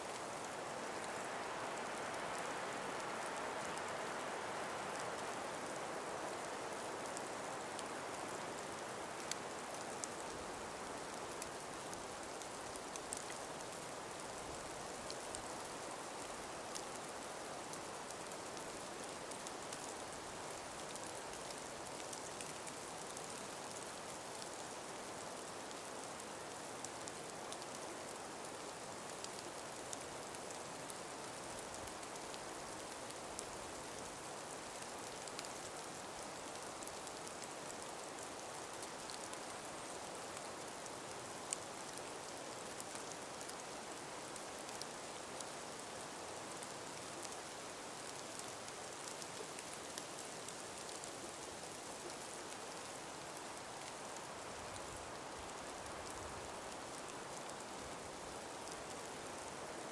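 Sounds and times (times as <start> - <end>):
soft breeze hiss: 0.0 - 59.9.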